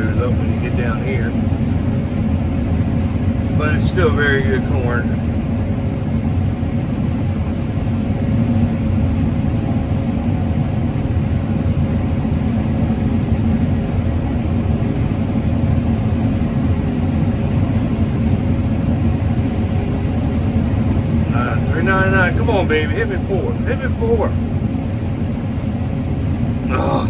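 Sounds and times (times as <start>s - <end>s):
combine harvester droning: 0.0s - 27.0s.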